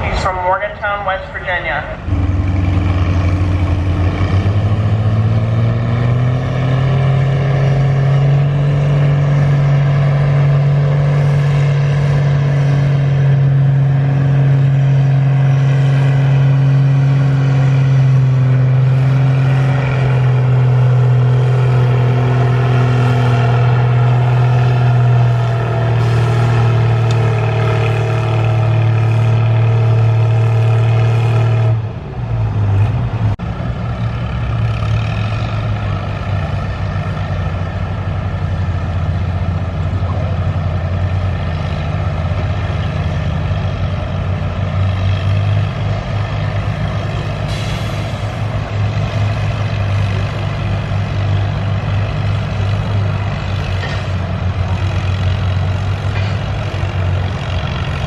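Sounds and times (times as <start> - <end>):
tractor engine running hard: 0.0 - 58.0.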